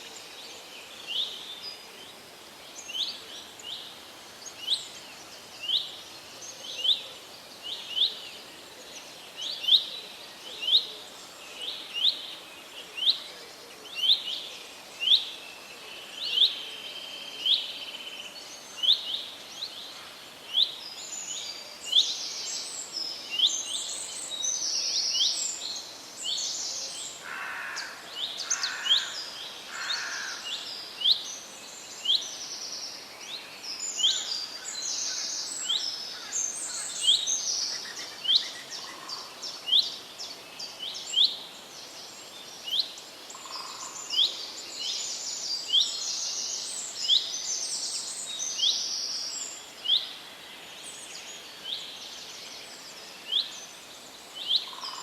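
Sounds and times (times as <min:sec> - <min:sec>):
birds singing high busy song: 0:00.0 - 0:55.0.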